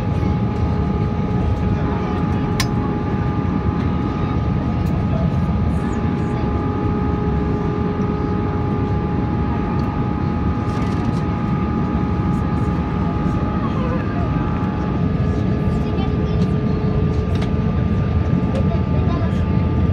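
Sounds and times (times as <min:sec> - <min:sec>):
airflow and engine rush: 0:00.0 - 0:19.9
engine whine: 0:00.0 - 0:19.9.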